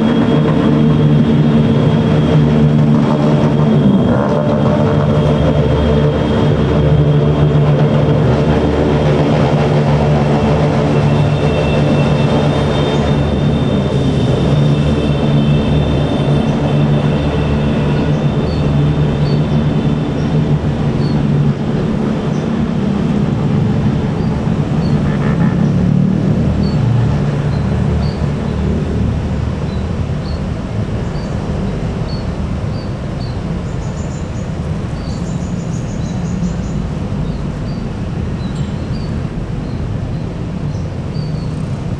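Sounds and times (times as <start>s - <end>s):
diesel bus engine running: 0.0s - 41.9s.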